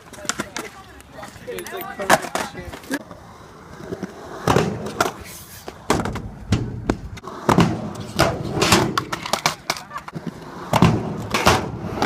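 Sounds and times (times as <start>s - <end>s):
skateboard clacking on ground: 0.0s - 3.2s, 3.8s - 12.0s
skateboard rolling over pavement: 0.0s - 12.0s.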